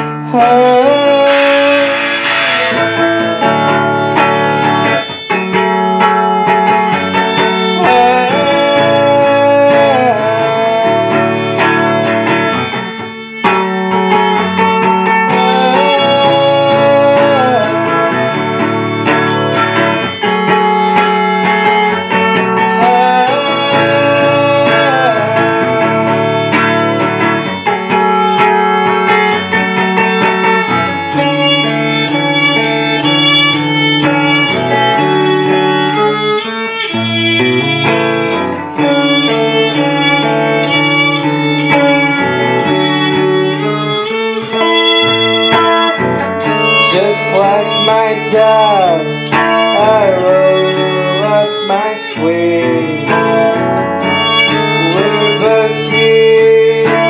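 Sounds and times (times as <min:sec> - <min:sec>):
live band playing: 0:00.0 - 0:57.0
sliding lead melody: 0:00.0 - 0:57.0.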